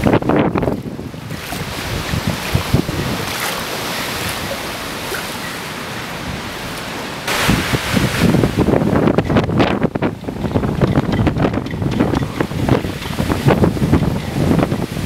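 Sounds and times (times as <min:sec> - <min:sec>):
strong wind rushing: 0:00.0 - 0:04.6, 0:07.3 - 0:15.0
wind buffeting microphone: 0:00.0 - 0:15.0.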